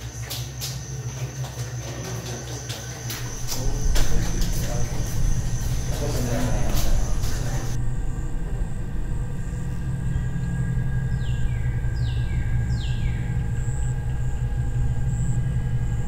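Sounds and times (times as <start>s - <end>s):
steady low rumble: 0.0s - 16.0s
thin high whine: 0.0s - 16.0s.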